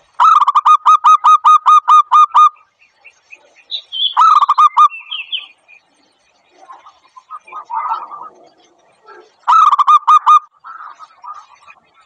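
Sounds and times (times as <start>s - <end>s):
faint high bird chirps: 0.0s - 12.0s
dove calling in hooked notes: 0.2s - 5.6s, 6.6s - 12.0s.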